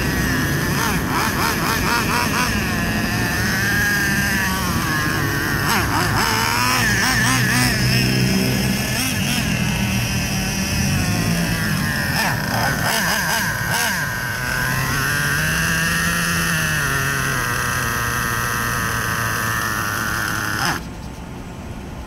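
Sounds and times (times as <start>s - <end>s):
small engine high idle whine: 0.0s - 21.4s.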